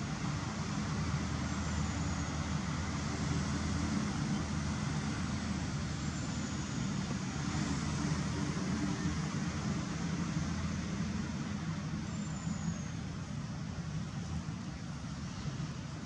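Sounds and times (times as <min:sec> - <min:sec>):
outdoor rumble and hiss: 0:00.0 - 0:16.0.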